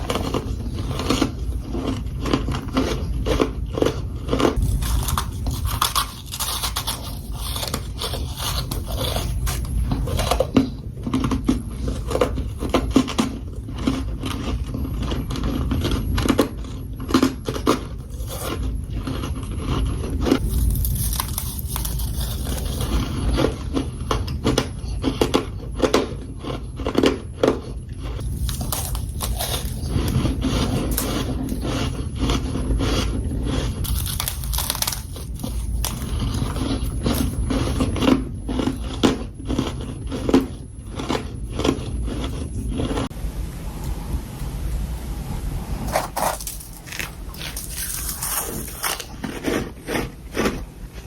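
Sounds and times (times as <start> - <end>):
frost crunching being chewed: 0.0 - 43.2, 45.8 - 51.0.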